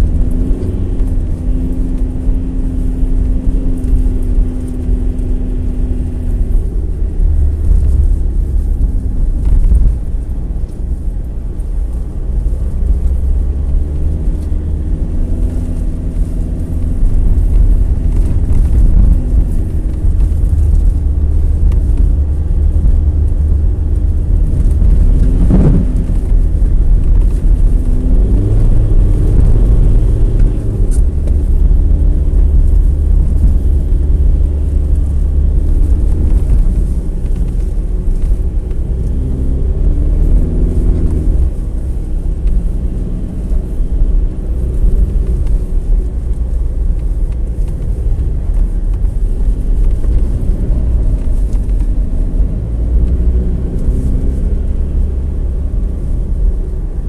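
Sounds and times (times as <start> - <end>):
car engine and drivetrain rumble: 0.0 - 57.0.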